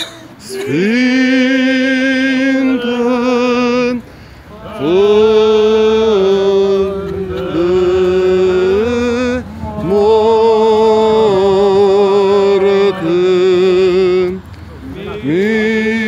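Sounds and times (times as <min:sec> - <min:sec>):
voices singing liturgical chant: 0:00.0 - 0:16.0.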